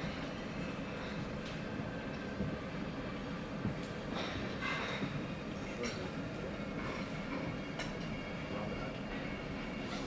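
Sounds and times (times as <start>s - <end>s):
low room rumble: 0.0s - 10.0s.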